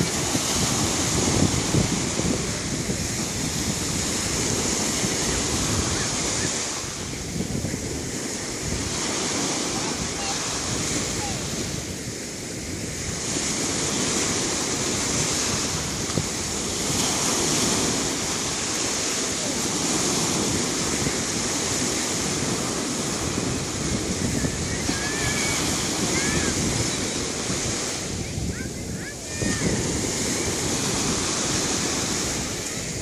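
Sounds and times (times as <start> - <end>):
waves breaking on shore: 0.0 - 33.0.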